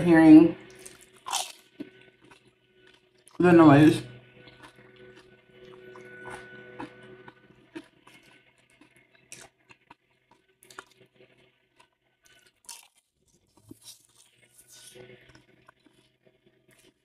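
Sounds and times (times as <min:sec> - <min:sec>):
crunching tortilla chips: 0:00.7 - 0:03.4, 0:04.5 - 0:17.0.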